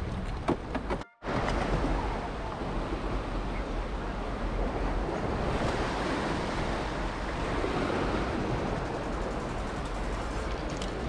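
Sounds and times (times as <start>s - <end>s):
wind buffeting microphone: 1.3s - 11.0s.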